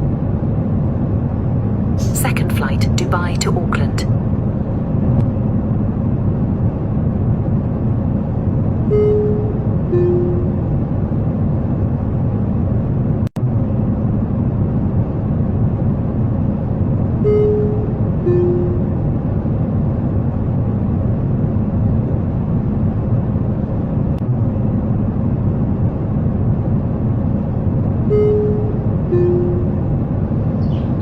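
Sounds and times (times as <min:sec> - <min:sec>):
airliner cabin rumble: 0:00.0 - 0:31.0.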